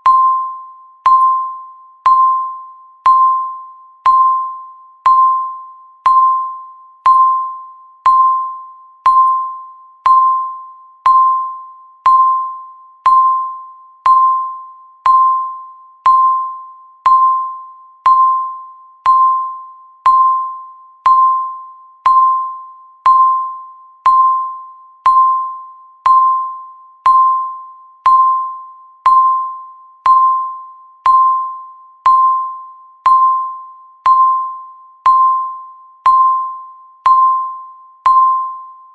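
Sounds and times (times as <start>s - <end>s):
countdown timer beeps: 0.0s - 38.9s.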